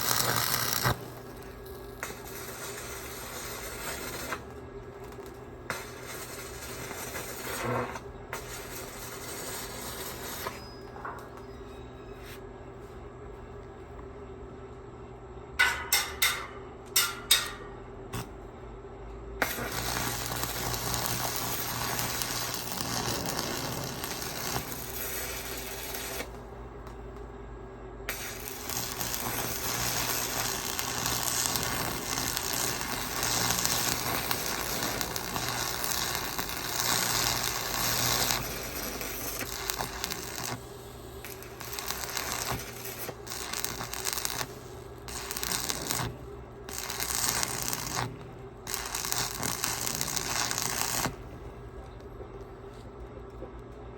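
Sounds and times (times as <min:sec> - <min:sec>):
arc welding crackling: 0:00.0 - 0:11.2, 0:19.4 - 0:27.3, 0:28.0 - 0:52.5
steady low hum: 0:00.0 - 0:53.9.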